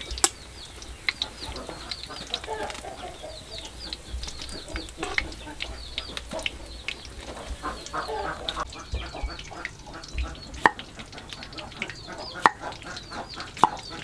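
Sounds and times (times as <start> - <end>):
chickens clucking: 0.0 - 14.0
high-pitched peeps: 0.0 - 14.0
sharp clicks and knocks: 0.0 - 14.0.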